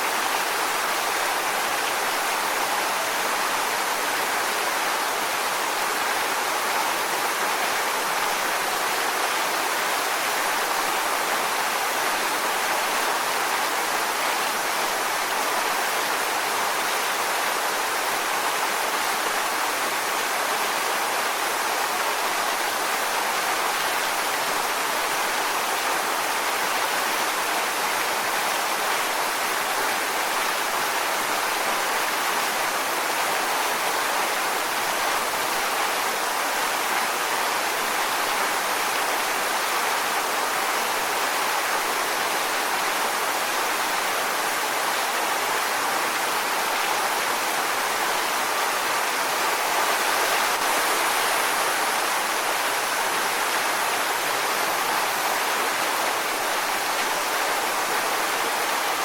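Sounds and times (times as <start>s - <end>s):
waterfall onto rocks: 0.0s - 59.0s.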